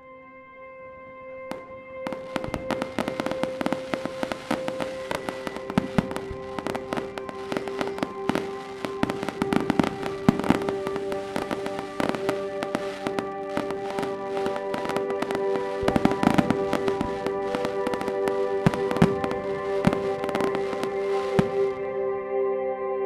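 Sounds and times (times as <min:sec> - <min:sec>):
music with long held notes: 0:00.0 - 0:23.0
fireworks bangs and crackles: 0:01.5 - 0:21.9.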